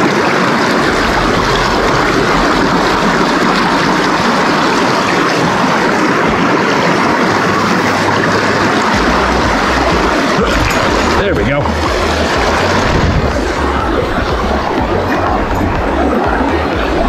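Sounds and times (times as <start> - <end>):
small whitewater cascade: 0.0 - 17.0.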